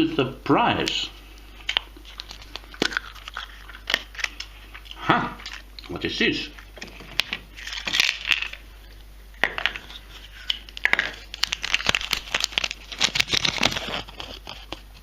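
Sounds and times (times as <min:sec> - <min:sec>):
crinkling: 0:00.8 - 0:15.0.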